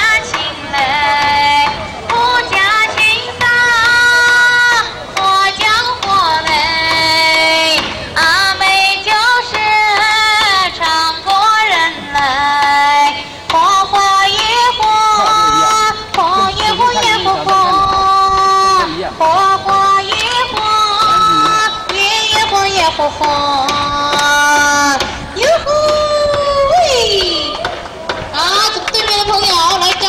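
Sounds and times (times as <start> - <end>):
high voice singing: 0.0 - 27.7
music: 0.0 - 30.0.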